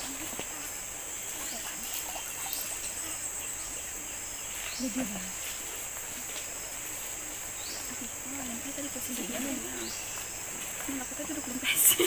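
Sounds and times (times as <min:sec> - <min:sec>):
high-pitched drone of forest insects: 0:00.0 - 0:12.0.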